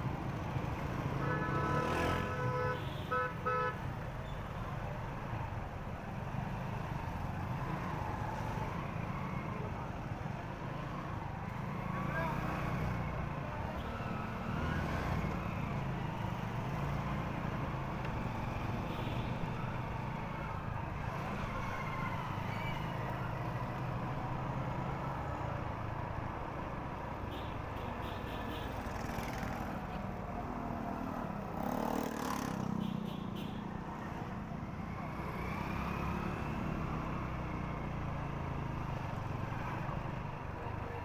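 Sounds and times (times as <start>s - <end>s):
city traffic: 0.0s - 41.0s.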